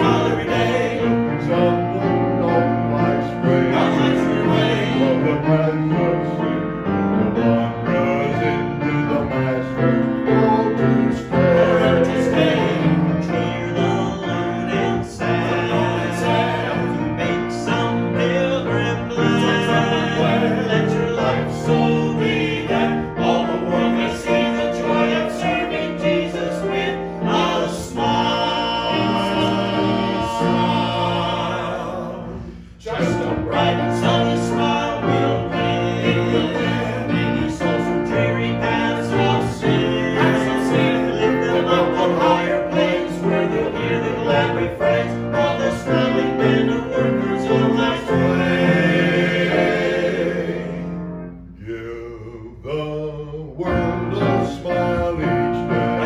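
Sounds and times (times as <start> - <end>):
church singing with accompaniment: 0.0 - 56.0.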